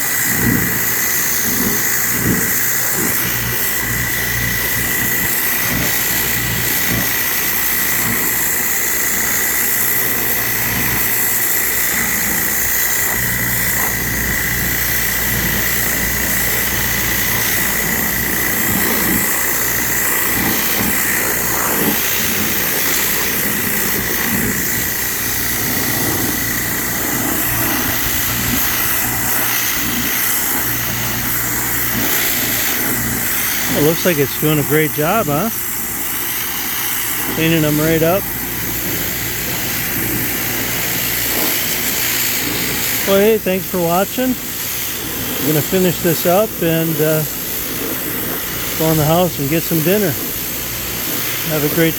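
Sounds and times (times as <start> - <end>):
pressure washer machine drone: 0.0 - 51.9
water jet hissing on concrete: 0.0 - 51.9.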